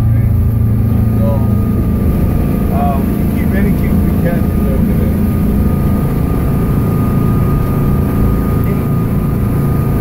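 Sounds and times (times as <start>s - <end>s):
boat engine drone: 0.0s - 10.0s
thin steady whine: 0.0s - 10.0s.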